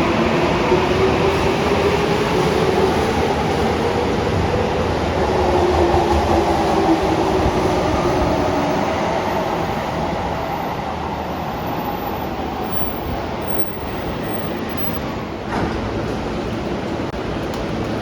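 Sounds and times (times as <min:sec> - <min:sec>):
subway train rumbling in tunnel: 0:00.0 - 0:18.0.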